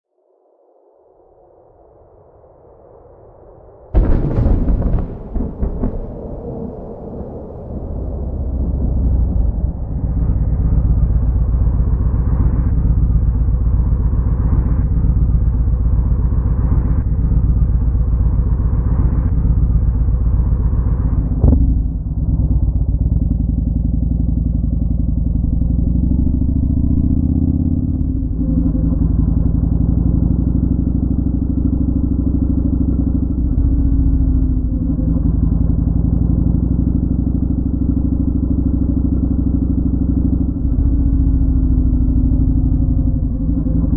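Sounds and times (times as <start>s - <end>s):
motorcycle engine running: 8.4s - 43.9s.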